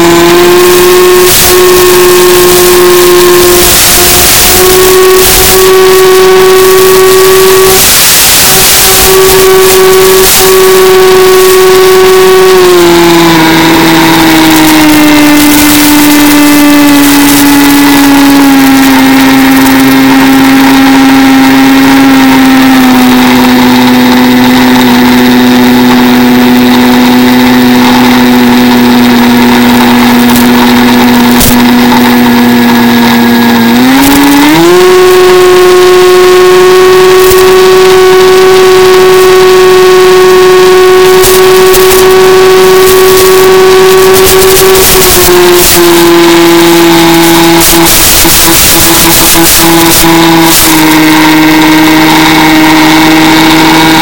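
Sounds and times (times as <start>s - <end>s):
model plane motor whining: 0.0s - 54.0s
wind noise on microphone: 0.0s - 54.0s.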